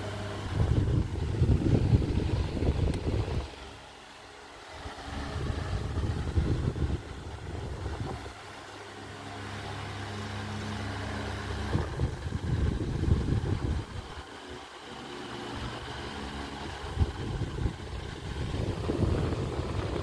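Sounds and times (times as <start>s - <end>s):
fan airflow buffeting microphone: 0.0s - 20.0s
fan motor hum: 0.0s - 20.0s.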